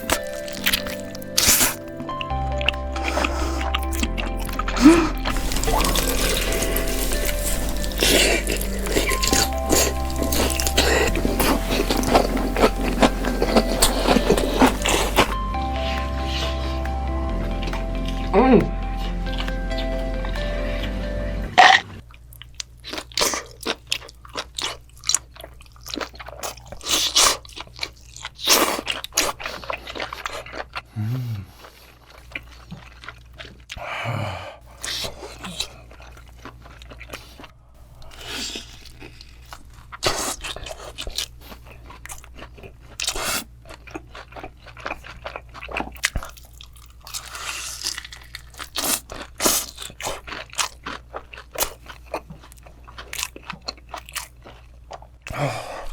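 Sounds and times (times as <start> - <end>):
crunchy fried chicken chewing: 0.0 - 16.8, 21.6 - 33.9, 34.7 - 55.5.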